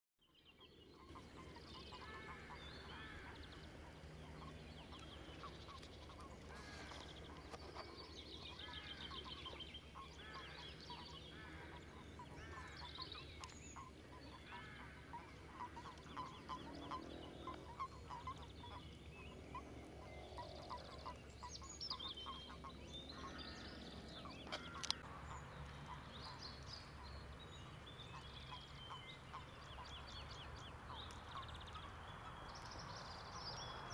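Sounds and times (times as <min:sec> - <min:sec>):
frogs croaking: 0:01.0 - 0:33.9.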